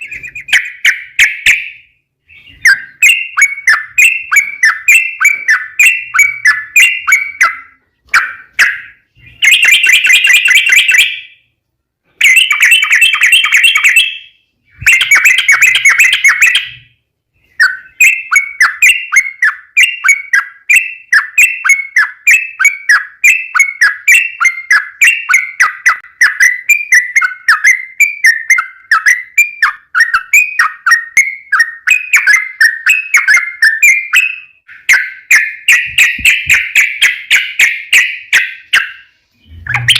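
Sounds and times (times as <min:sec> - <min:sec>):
bulbul singing rapid song: 0:00.0 - 0:11.5, 0:12.2 - 0:16.8, 0:17.4 - 0:39.9.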